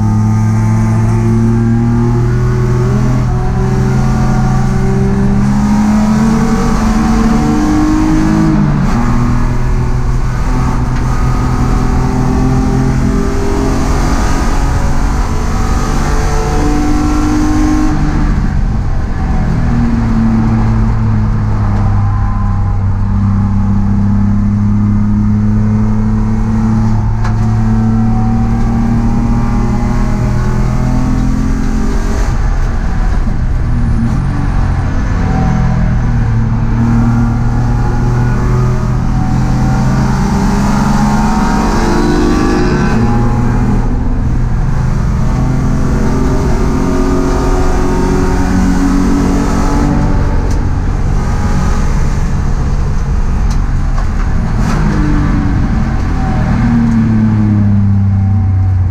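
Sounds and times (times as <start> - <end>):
race car engine revving: 0.0 - 58.9
road and wind noise: 0.0 - 58.9.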